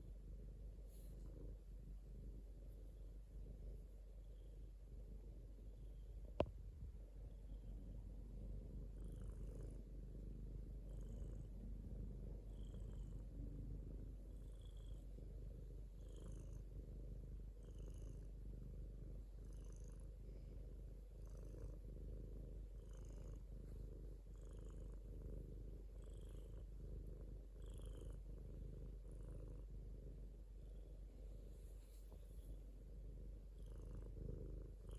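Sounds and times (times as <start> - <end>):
cat purring: 0.0 - 34.9.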